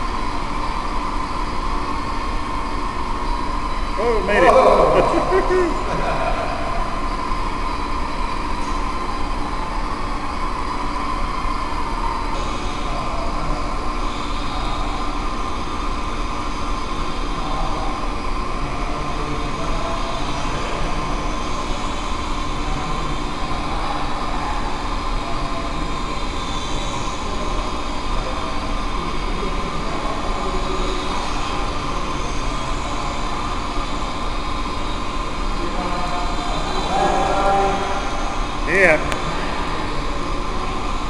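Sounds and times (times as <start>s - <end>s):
constant low hum: 0.0s - 41.0s
drone propellers whining: 0.0s - 41.0s.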